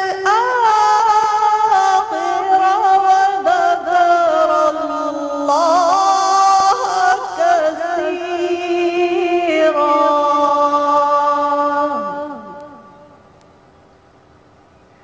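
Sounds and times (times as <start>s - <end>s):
woman reciting melodically: 0.0s - 13.2s.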